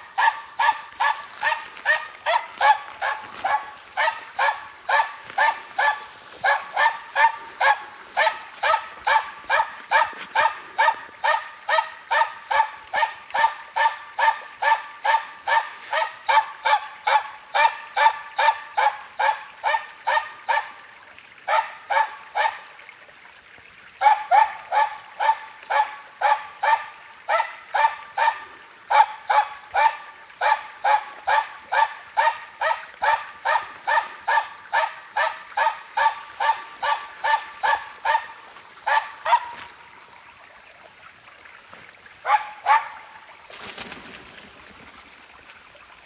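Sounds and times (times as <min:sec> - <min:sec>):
dog barking fast: 0:00.2 - 0:20.6, 0:21.5 - 0:22.6, 0:24.0 - 0:39.6, 0:42.2 - 0:43.0.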